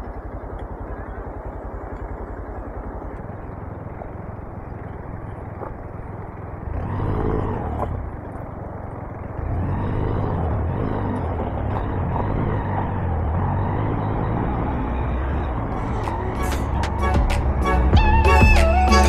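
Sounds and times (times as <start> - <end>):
motorcycle engine at low revs: 0.0 - 19.0
road noise: 0.0 - 19.0.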